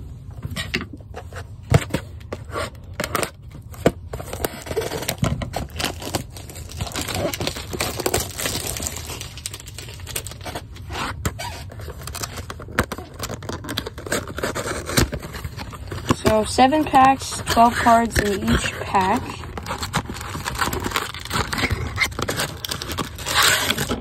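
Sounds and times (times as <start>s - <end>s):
wrapping crinkling and ripping: 2.1s - 24.0s.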